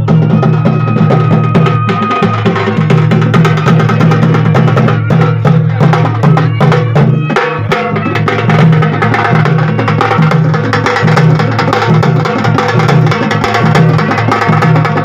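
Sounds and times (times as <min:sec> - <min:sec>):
drums beaten in fast rhythm: 0:00.0 - 0:15.0.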